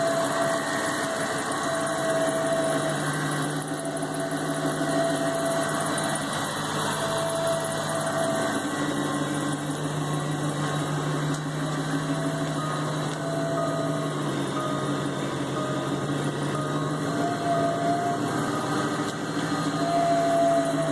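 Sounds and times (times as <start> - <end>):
car engine running: 0.0 - 20.9
engine whining tone: 0.0 - 20.9.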